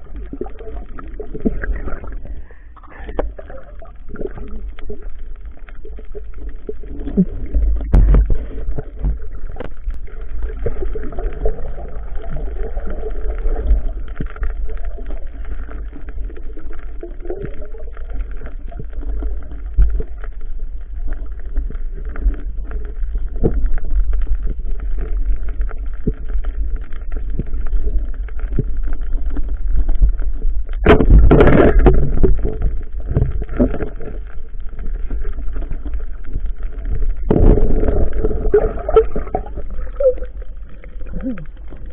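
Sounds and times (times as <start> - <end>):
underwater clicks and crackles: 0.0 - 41.9
underwater low rumble: 0.0 - 41.9.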